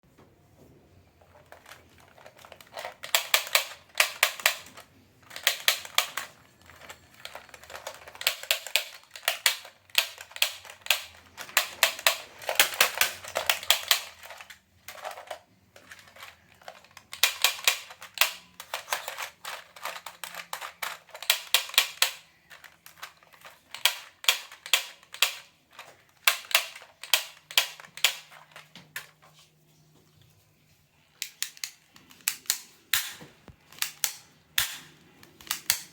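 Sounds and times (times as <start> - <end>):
plastic toy guns clicking: 1.5 - 29.1, 31.2 - 35.9.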